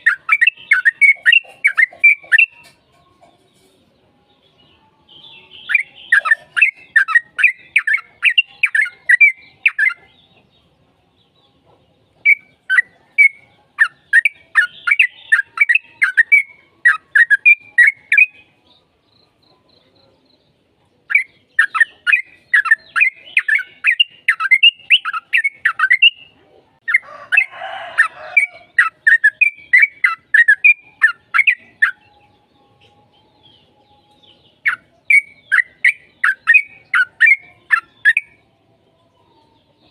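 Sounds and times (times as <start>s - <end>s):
bird singing chattering notes: 0.0s - 3.8s, 5.2s - 10.7s, 12.1s - 19.5s, 20.2s - 38.4s.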